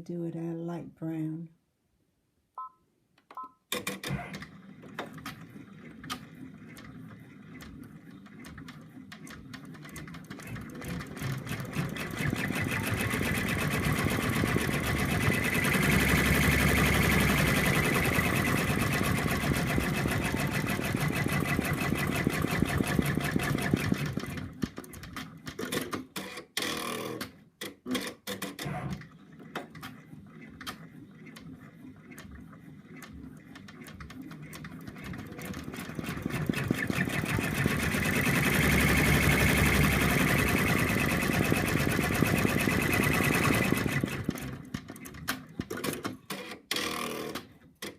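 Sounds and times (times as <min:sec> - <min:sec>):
embroidery machine stitching: 0:03.7 - 0:47.9.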